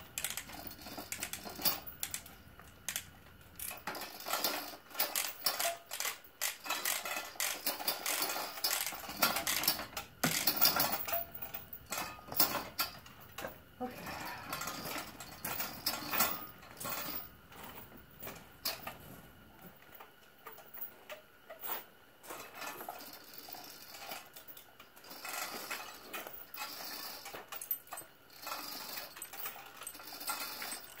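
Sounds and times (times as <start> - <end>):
chain hoist chains rattling: 0.0 - 19.0, 19.9 - 31.0.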